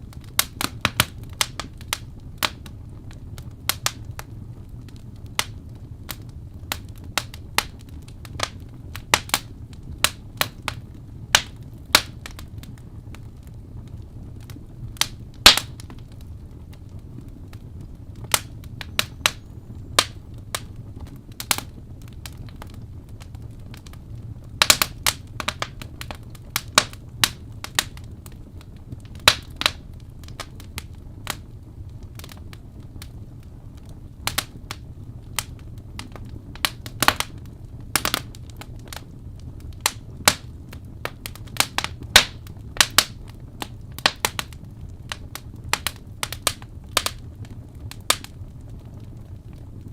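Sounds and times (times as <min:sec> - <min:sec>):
low fire rumble: 0:00.0 - 0:49.9
wood fire crackling: 0:00.0 - 0:49.9.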